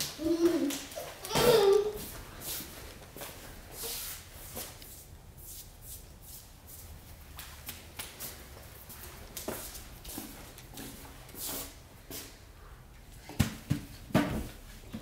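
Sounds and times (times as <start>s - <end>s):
footsteps on tile floor: 0.0s - 12.5s.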